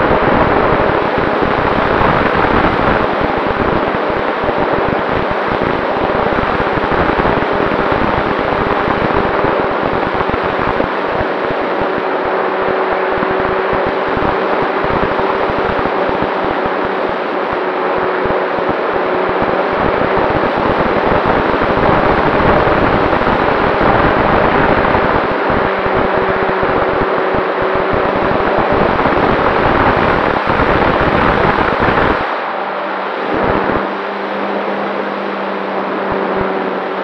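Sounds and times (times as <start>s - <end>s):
wind rushing over microphone: 0.0s - 37.0s.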